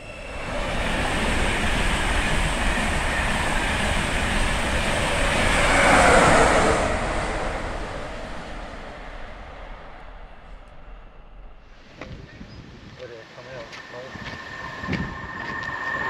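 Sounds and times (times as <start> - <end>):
train passing rushing rumble: 0.0 - 12.1, 13.1 - 16.0.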